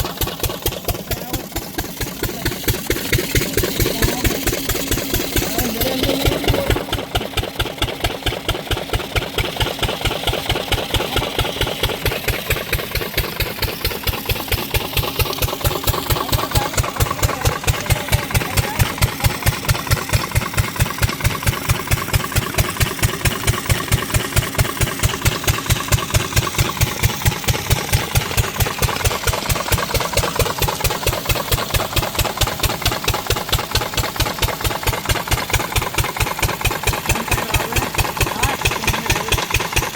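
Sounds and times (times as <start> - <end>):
diesel engine running pump: 0.0 - 39.9.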